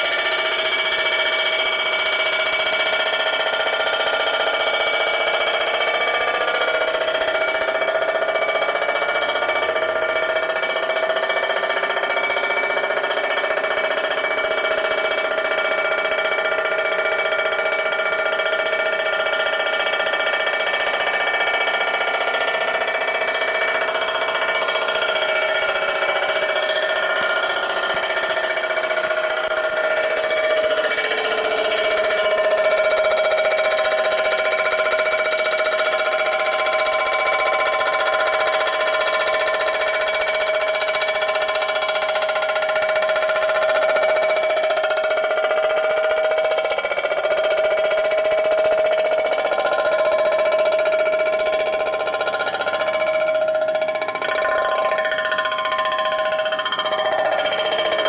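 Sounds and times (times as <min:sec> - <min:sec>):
machine tool cutting metal: 0:00.0 - 0:58.0.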